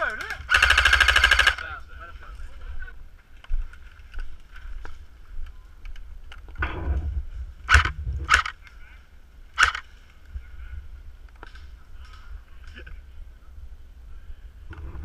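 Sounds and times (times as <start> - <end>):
rustle of movement: 1.5 - 15.0.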